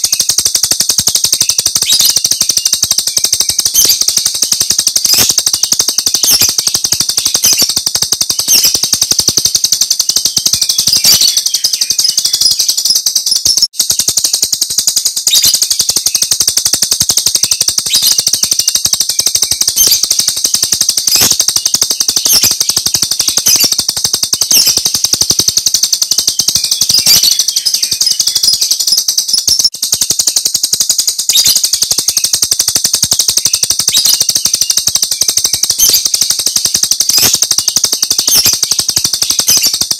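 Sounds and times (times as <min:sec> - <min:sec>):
sharp clicks: 0:00.0 - 0:39.9
starling chattering song: 0:00.0 - 0:39.9.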